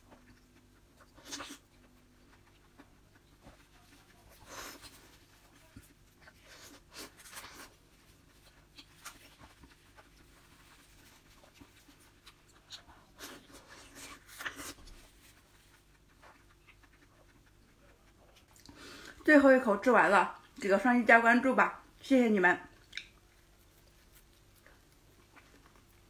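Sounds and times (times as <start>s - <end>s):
wet chewing and lip smacking: 0.0s - 19.2s, 22.7s - 26.0s.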